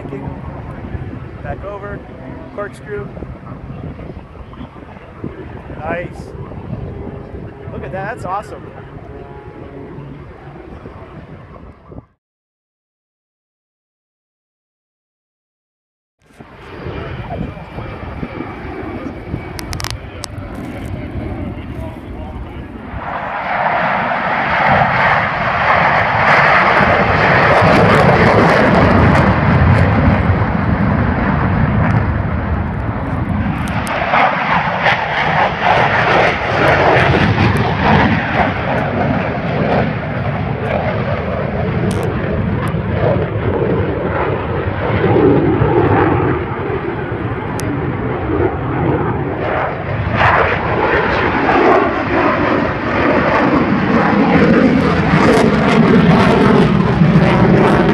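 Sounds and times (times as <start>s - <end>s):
airplane engine overhead: 0.0s - 12.2s, 16.2s - 57.9s.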